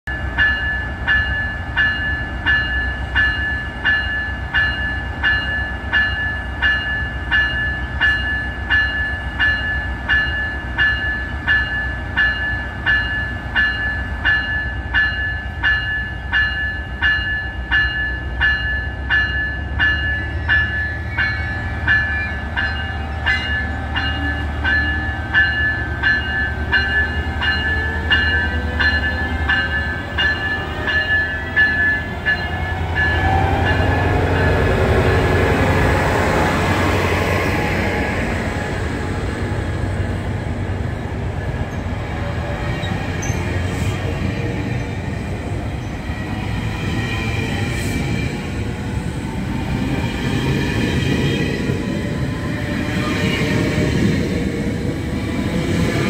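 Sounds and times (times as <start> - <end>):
rising train whine: 0.0 - 56.0
locomotive bell ringing: 0.1 - 55.1.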